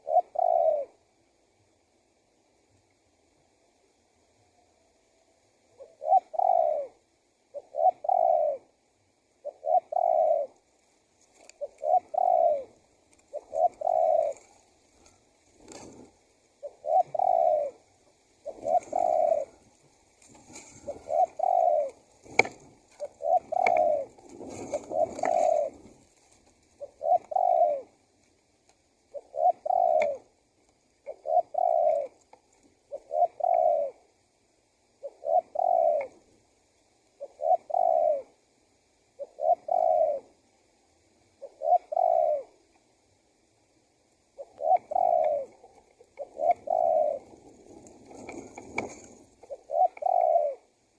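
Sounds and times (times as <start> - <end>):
dove cooing: 0.0 - 1.3, 5.6 - 28.1, 29.0 - 40.6, 41.2 - 42.9, 44.2 - 50.9.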